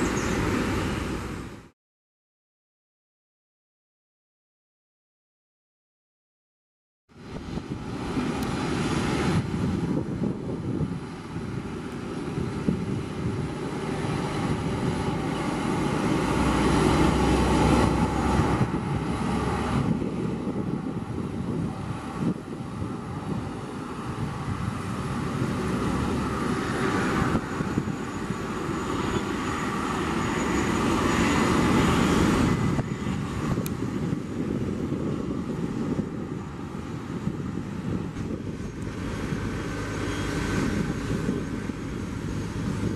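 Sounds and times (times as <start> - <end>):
jet engines rumbling and hissing: 0.0 - 1.8, 7.1 - 42.9.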